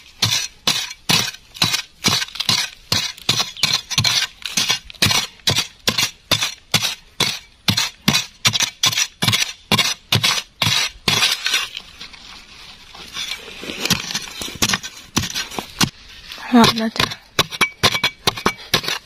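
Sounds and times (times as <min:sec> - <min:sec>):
digging tool striking ground: 0:00.0 - 0:12.0, 0:13.0 - 0:19.0.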